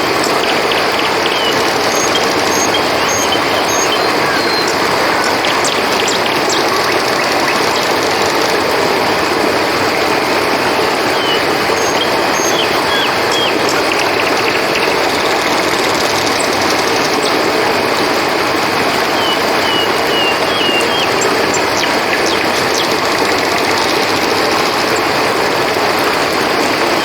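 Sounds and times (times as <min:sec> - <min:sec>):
crickets trilling: 0:00.0 - 0:27.0
river water flowing: 0:00.0 - 0:27.0.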